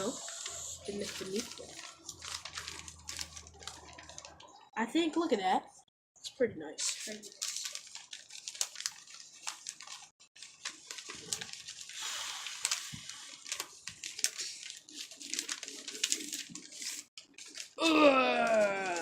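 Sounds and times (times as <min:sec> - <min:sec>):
paper rustling and crinkling: 0:00.0 - 0:04.6, 0:06.8 - 0:19.0.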